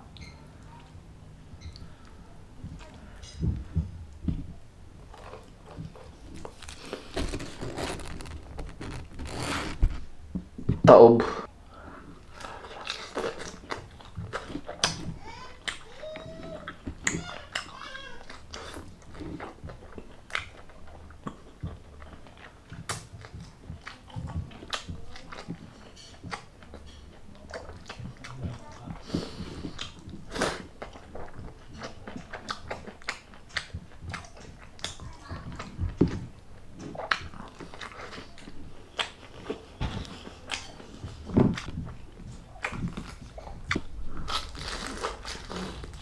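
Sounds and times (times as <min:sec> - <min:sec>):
person chewing crispy food: 0:05.0 - 0:10.0, 0:12.0 - 0:46.0.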